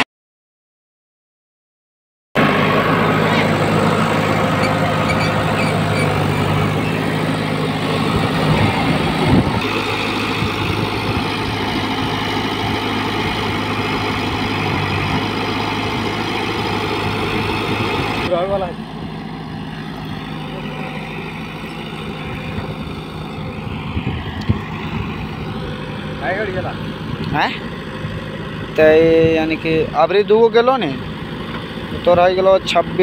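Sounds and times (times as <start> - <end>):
diesel engine running: 2.4 - 33.0.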